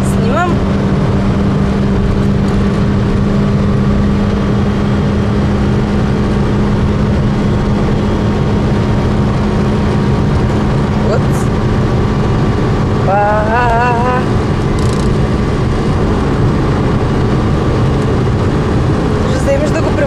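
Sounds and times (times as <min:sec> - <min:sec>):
car engine at high revs: 0:00.0 - 0:20.0
road and wind noise: 0:00.0 - 0:20.0.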